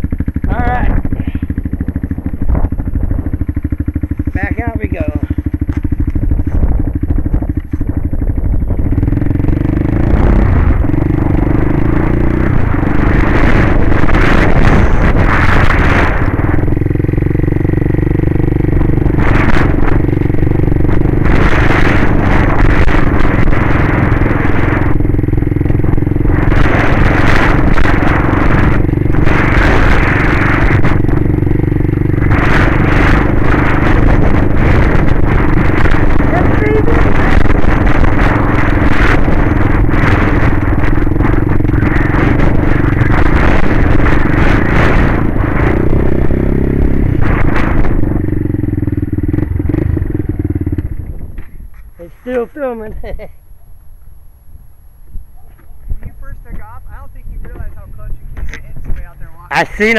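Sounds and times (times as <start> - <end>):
atv engine running: 0.0 - 59.9
wind on microphone: 0.0 - 59.9.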